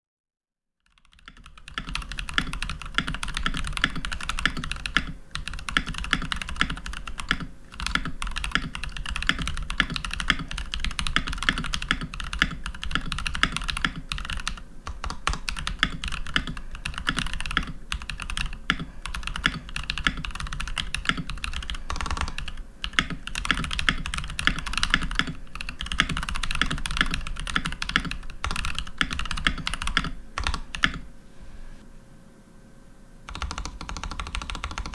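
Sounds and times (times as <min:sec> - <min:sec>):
mechanical keyboard typing: 0:00.9 - 0:31.0, 0:33.3 - 0:34.9.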